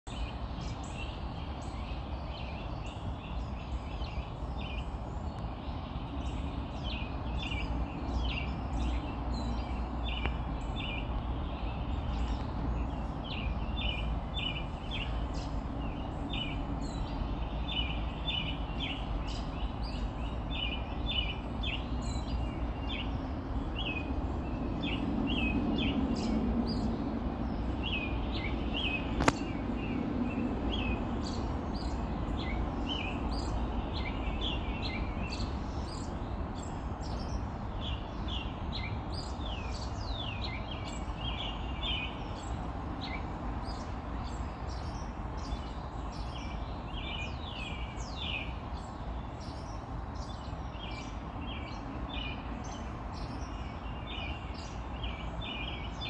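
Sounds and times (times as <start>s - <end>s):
low background noise: 0.1s - 56.0s
small birds chirping: 0.1s - 56.0s.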